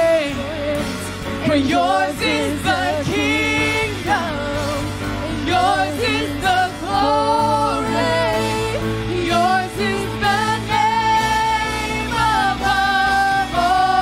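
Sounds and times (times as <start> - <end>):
band with keyboard and guitar: 0.0 - 14.0
lead vocals singing: 0.0 - 14.0
choir singing: 1.4 - 14.0.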